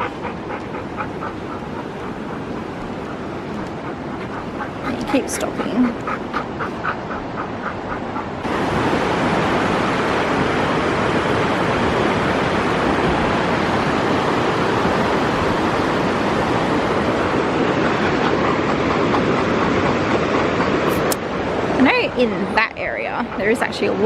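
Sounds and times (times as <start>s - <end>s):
river rapids rushing: 0.0s - 22.6s.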